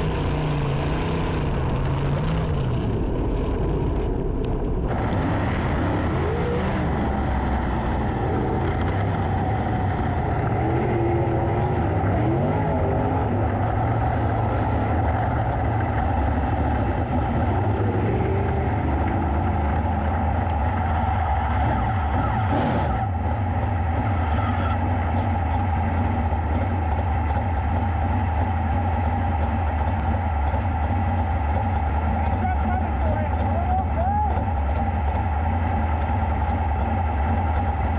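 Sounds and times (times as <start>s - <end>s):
racing car engines: 0.0s - 37.9s.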